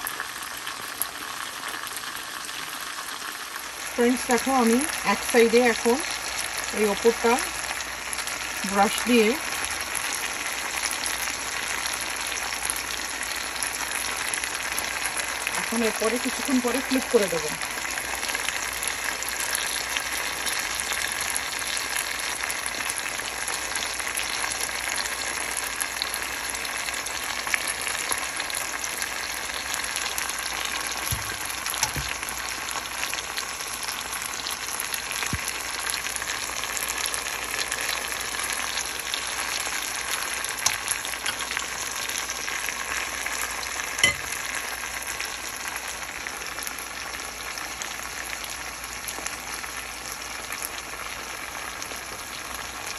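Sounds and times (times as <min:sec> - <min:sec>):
chicken sizzling in a pan: 0:00.0 - 0:52.9.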